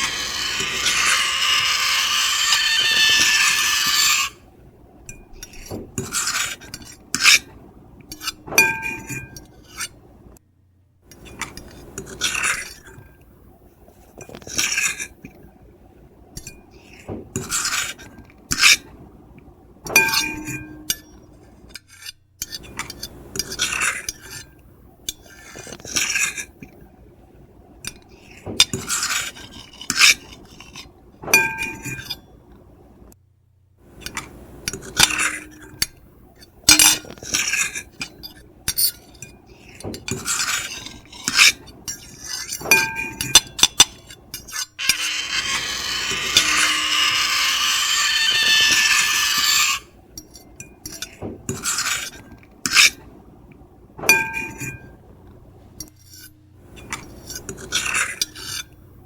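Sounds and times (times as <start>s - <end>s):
cutlery scraping a plate: 0.0s - 4.4s, 5.1s - 7.5s, 8.1s - 10.0s, 11.2s - 13.2s, 14.0s - 15.3s, 16.4s - 18.9s, 19.9s - 26.8s, 27.9s - 32.3s, 34.0s - 53.0s, 54.0s - 55.0s, 55.8s - 58.8s.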